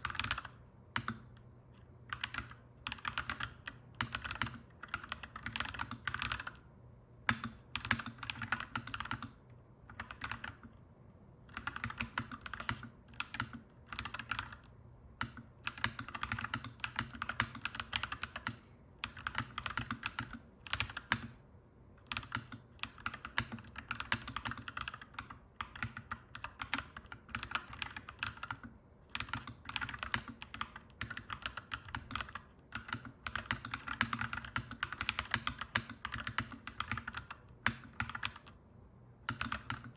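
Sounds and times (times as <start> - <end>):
mechanical keyboard typing: 0.0 - 1.4, 2.1 - 6.6, 7.3 - 10.8, 11.5 - 21.4, 22.0 - 38.6, 39.2 - 39.9.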